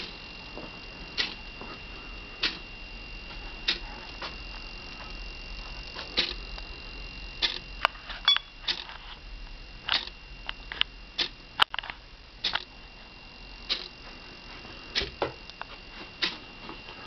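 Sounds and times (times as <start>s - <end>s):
servo clicks and buzzes: 0.0s - 14.0s
steady high whine: 0.0s - 17.0s.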